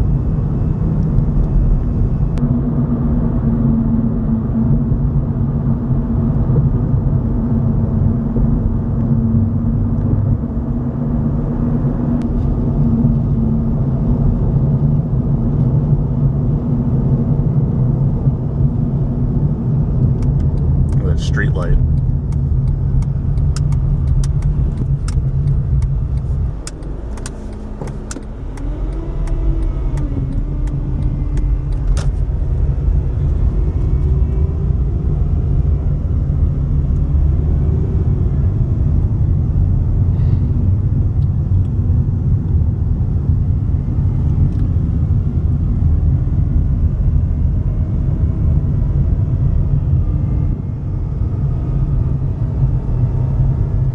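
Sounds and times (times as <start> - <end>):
car road and engine noise: 0.0 - 53.9.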